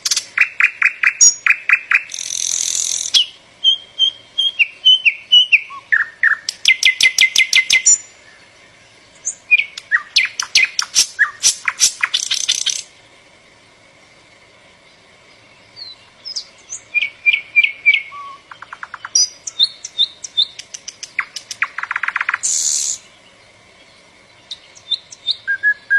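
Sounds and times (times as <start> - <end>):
songbird singing: 0.0 - 25.9.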